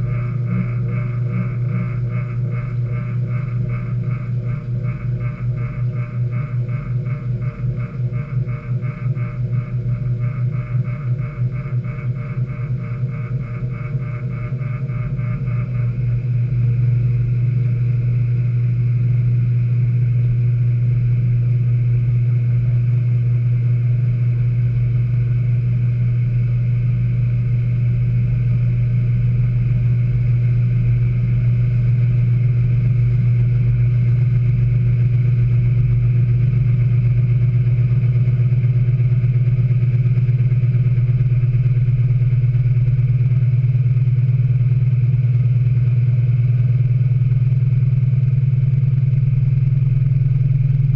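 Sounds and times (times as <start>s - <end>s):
washing machine spinning hum: 0.0s - 50.9s.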